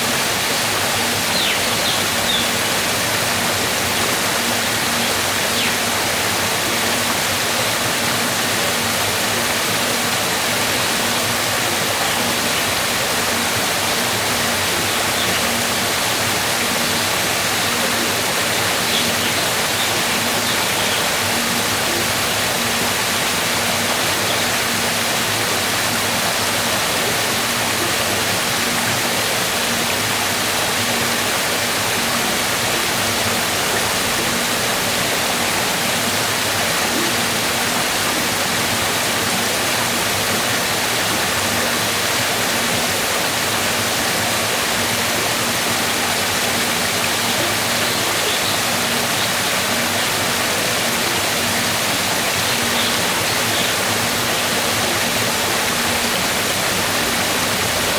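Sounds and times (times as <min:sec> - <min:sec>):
waterfall: 0:00.0 - 0:57.9.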